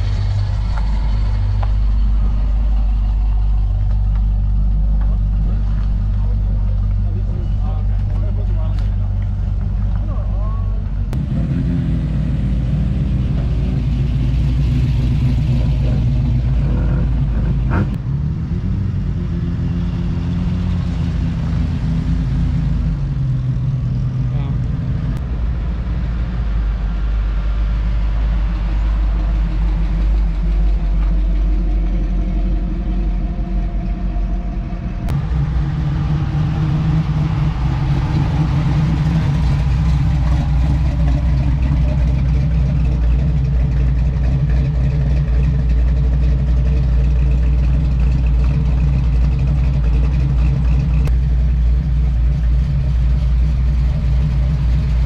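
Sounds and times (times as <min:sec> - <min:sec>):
car engines rumbling: 0:00.0 - 0:55.0.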